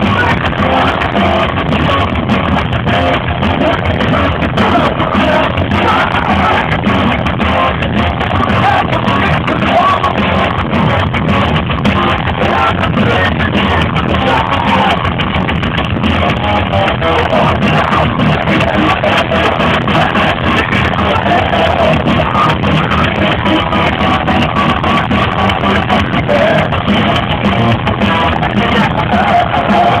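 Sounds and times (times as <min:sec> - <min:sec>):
thrash metal band playing live: 0:00.0 - 0:30.0.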